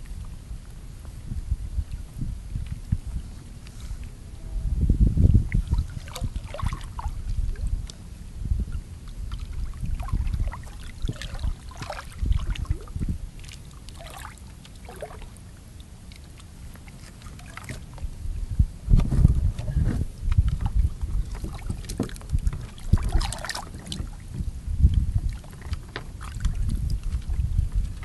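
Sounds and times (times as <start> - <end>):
wind buffeting microphone: 0.0 - 14.1, 17.4 - 28.0
water sloshing against kayak hull: 5.3 - 28.0.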